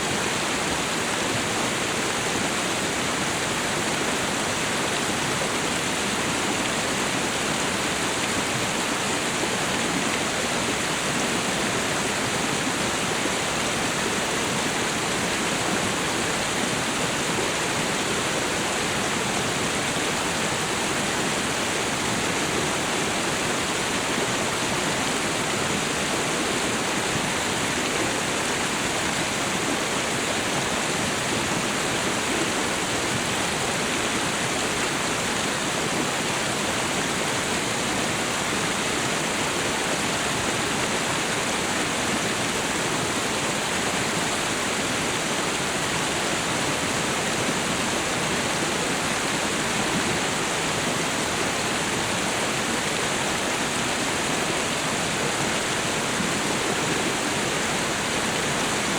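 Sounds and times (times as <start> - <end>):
waterfall and river rushing: 0.0 - 58.9.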